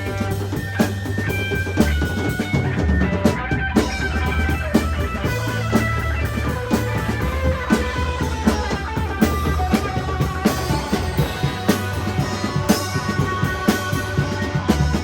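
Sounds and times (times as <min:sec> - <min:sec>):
drum kit beat: 0:00.0 - 0:15.0
guitar notes: 0:00.0 - 0:15.0.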